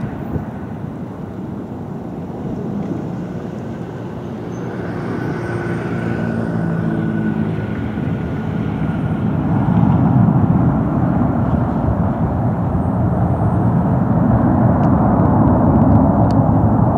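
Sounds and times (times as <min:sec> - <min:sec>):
jet engines low rumbling: 0:00.0 - 0:16.9.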